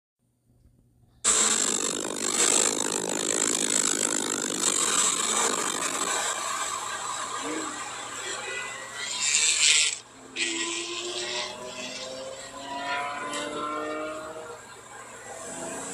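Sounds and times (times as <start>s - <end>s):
car engine: 1.3s - 15.9s
road noise: 1.3s - 15.9s.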